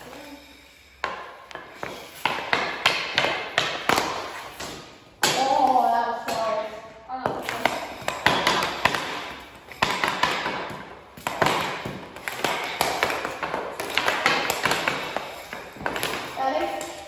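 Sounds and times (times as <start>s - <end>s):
hockey sticks hitting pucks: 1.0s - 17.0s.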